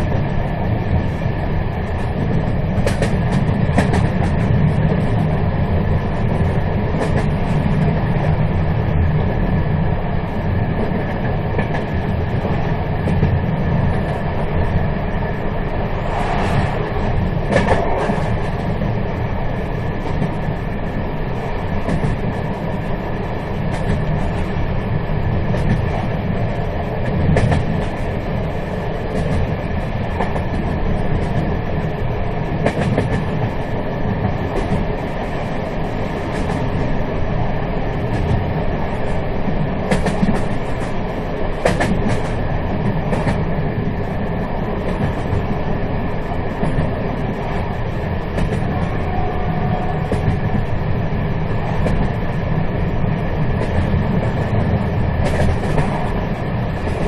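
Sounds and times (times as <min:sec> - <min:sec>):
train rattles: 0:00.0 - 0:57.0
train rumbling: 0:00.0 - 0:57.0.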